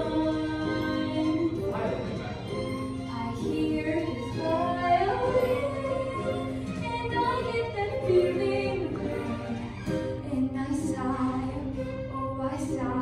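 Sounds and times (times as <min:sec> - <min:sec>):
woman singing: 0:00.0 - 0:02.2, 0:03.0 - 0:13.0
instrumental accompaniment: 0:00.0 - 0:13.0.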